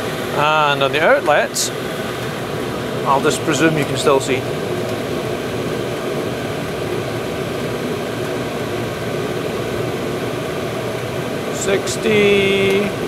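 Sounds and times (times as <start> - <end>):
air heater blower rushing: 0.0 - 13.0
extractor fan running: 0.0 - 13.0.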